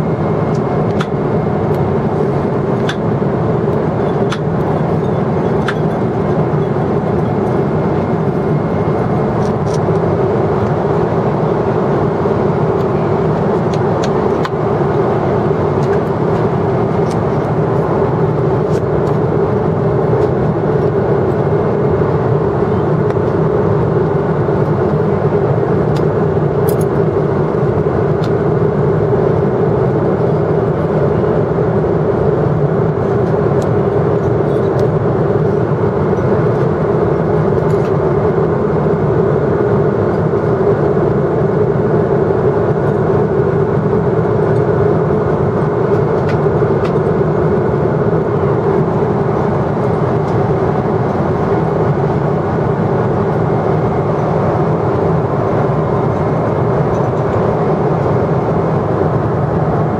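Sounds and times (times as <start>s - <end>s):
airliner cabin airflow and engine noise: 0.0s - 59.9s.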